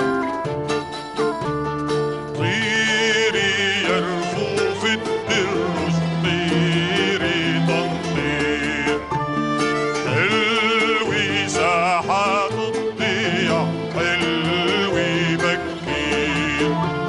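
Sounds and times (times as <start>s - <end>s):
instrumental accompaniment: 0.0s - 17.0s
man singing with vibrato: 2.4s - 17.0s.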